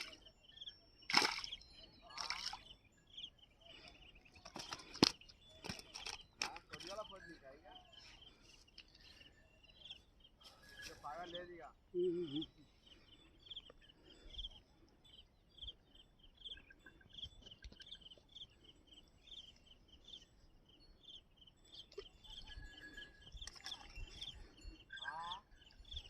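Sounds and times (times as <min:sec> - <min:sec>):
outdoor ambience: 0:00.0 - 0:26.0.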